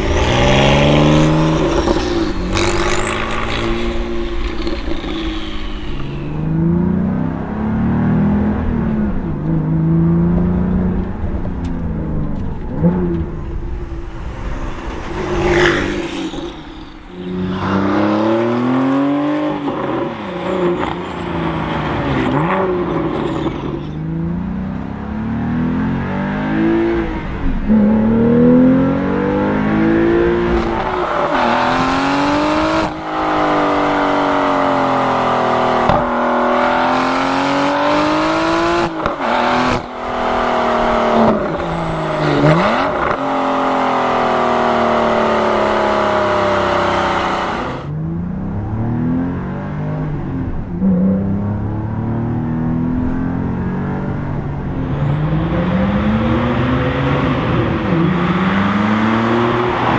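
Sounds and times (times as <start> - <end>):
sports car engine accelerating hard: 0.0 - 59.9.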